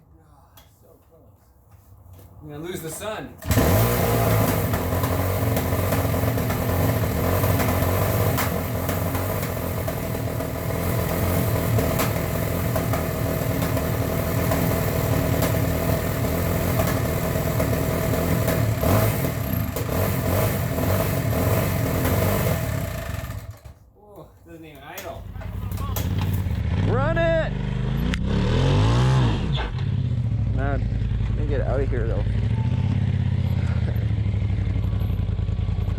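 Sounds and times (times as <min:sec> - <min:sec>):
dirt bike engine idling: 0:03.4 - 0:23.8, 0:25.1 - 0:28.0, 0:30.2 - 0:35.9.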